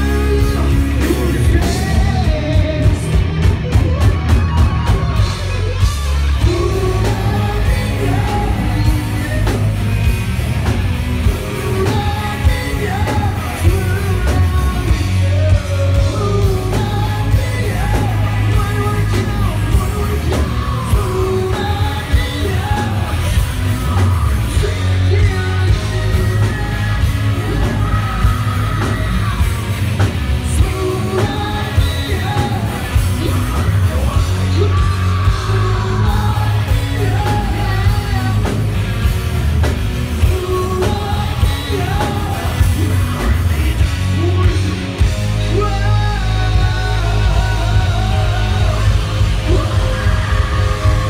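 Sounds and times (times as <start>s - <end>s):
live rock band playing: 0.0s - 51.0s
singer singing and yelling: 0.0s - 51.0s.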